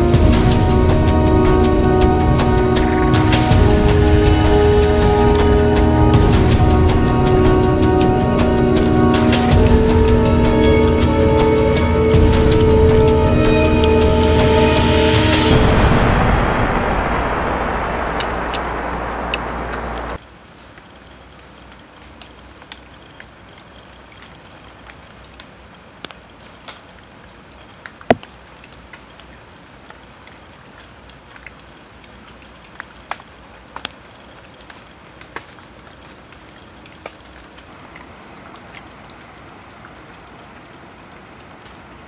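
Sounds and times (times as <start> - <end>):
light rain hissing: 0.0 - 42.0.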